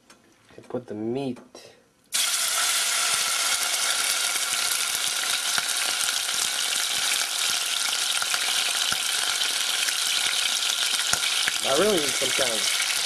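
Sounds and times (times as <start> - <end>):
meat sizzling in hot oil: 2.1 - 13.0
oil spattering crackles: 2.1 - 13.0.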